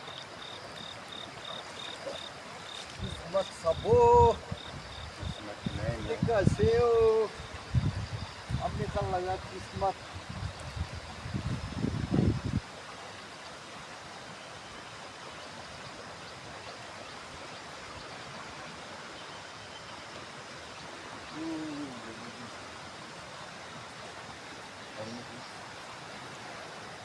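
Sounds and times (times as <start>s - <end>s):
fast-flowing river rushing: 0.0s - 27.0s.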